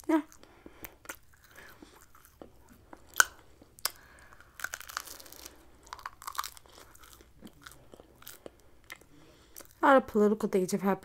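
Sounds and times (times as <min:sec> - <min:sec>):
person chewing food: 0:00.2 - 0:09.8.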